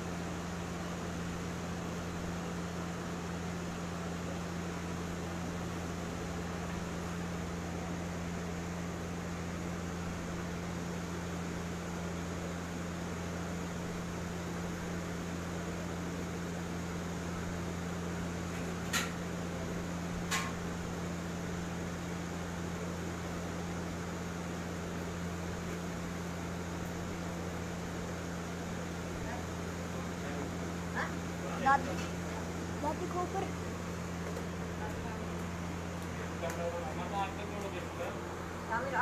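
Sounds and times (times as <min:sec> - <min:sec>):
electric fan hum: 0:00.0 - 0:39.0.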